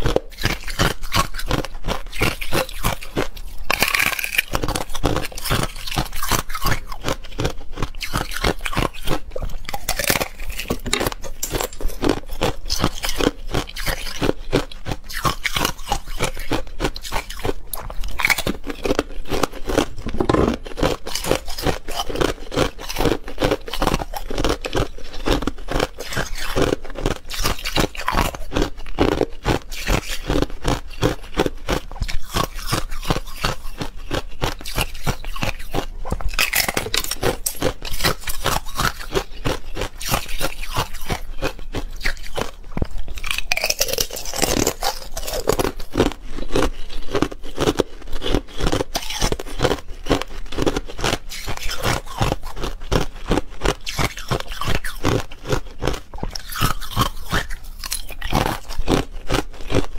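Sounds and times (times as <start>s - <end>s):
ice being chewed crunching: 0.0s - 59.9s.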